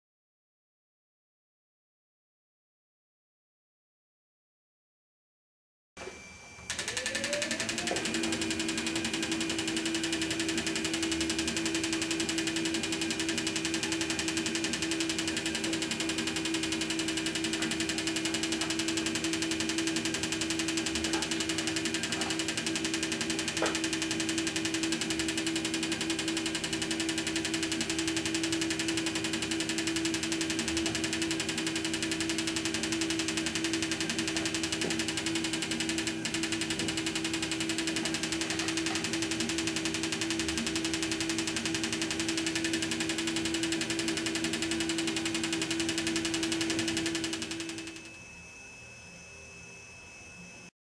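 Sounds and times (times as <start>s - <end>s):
machine hum: 6.0s - 49.6s
short rising machine sound: 6.1s - 48.4s
fast even ticking: 6.7s - 48.1s.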